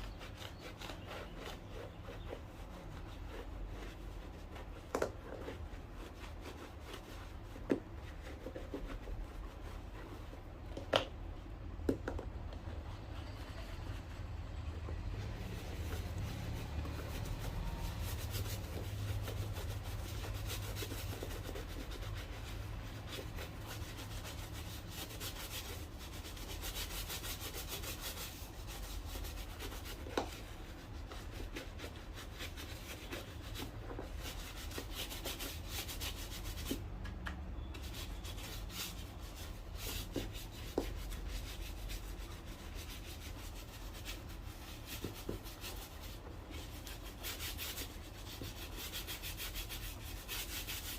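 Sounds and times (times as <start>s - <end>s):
rubbing strokes on shoe: 0.0s - 11.5s, 14.9s - 36.8s, 37.6s - 50.9s.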